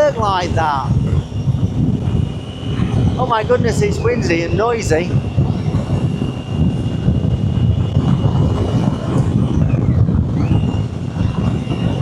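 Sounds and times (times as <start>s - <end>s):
motorcycle wind and road noise: 0.0s - 12.0s
thin high whine: 0.0s - 12.0s.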